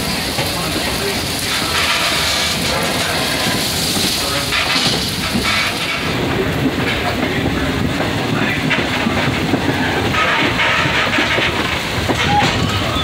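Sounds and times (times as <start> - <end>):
rain hissing: 0.0 - 13.0
train wheels clattering on rails: 0.0 - 13.0.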